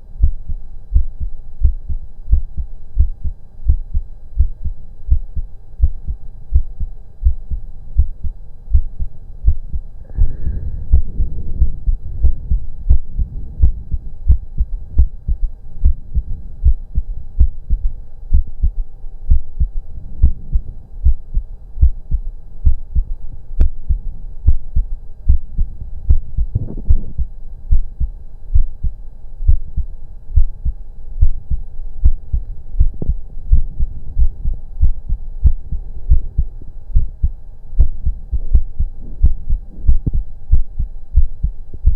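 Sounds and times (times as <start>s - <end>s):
faint steady hum: 0.0s - 41.9s
heartbeat through stethoscope: 0.2s - 41.9s.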